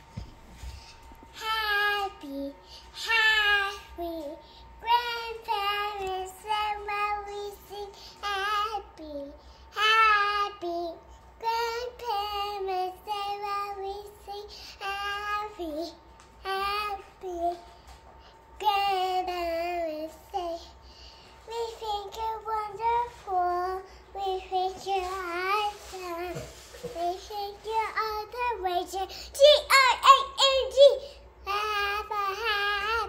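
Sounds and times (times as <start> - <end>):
girl singing: 1.3 - 17.9, 18.6 - 20.8, 21.4 - 33.0.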